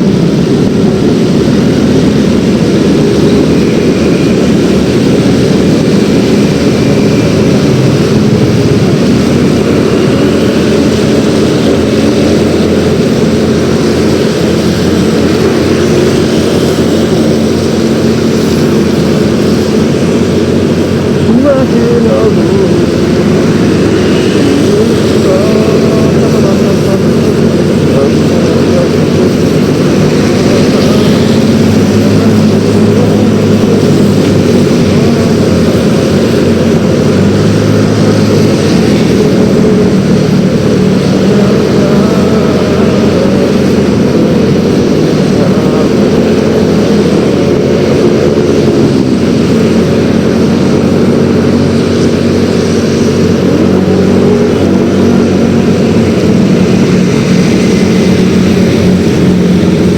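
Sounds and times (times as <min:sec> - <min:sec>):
road and wind noise: 0:00.0 - 0:59.9
scooter engine running: 0:00.0 - 0:59.9.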